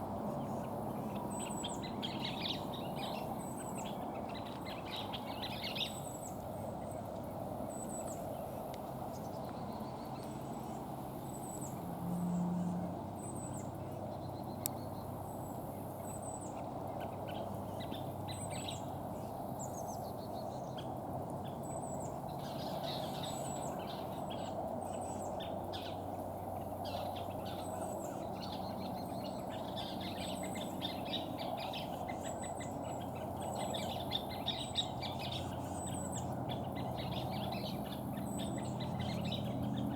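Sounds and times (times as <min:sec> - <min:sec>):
birds calling and chattering: 0:00.2 - 0:39.9.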